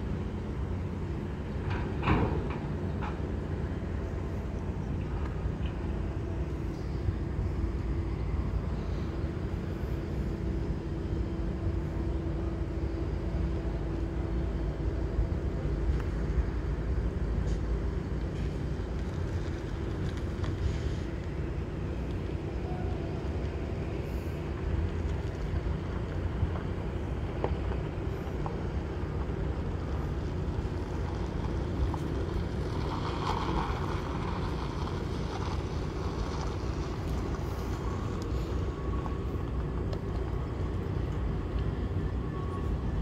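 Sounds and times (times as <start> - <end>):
diesel locomotive rumbling: 0.0 - 43.0
faint hum: 0.0 - 43.0.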